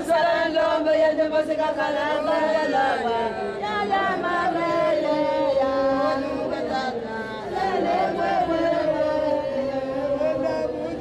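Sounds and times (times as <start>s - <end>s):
group singing chant-like song: 0.0s - 11.0s.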